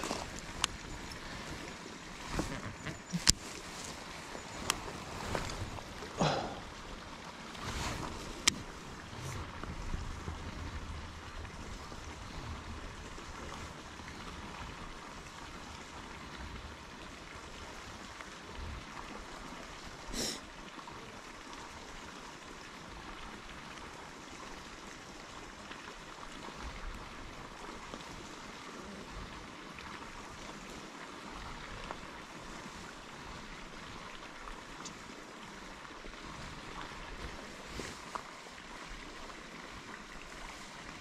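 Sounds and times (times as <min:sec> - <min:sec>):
running water rushing: 0:00.0 - 0:41.0.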